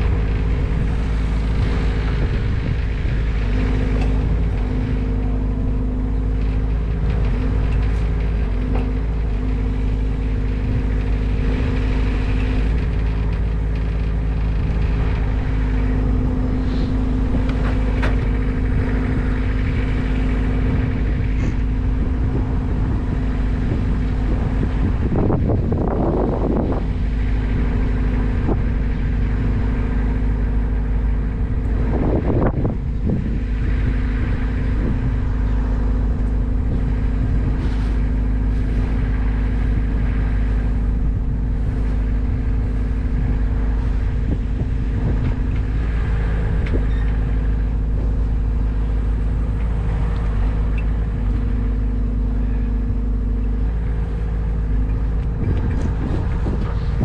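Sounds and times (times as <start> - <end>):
engine running with deep rumble: 0.0 - 57.0.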